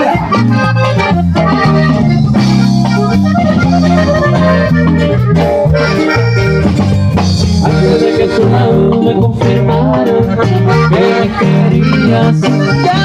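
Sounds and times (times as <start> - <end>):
latin band with accordion: 0.0 - 13.0.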